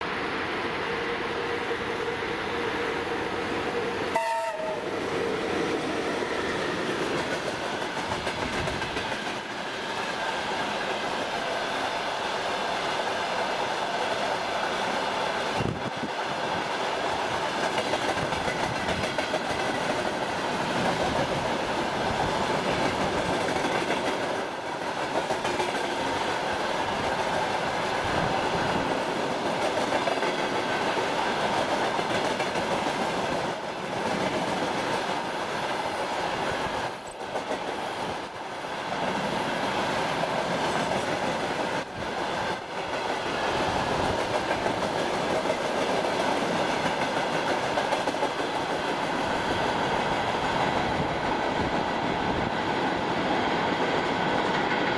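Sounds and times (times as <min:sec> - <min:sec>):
electric locomotive passing: 0:00.0 - 0:54.9
steel wheels on rails: 0:05.1 - 0:54.9.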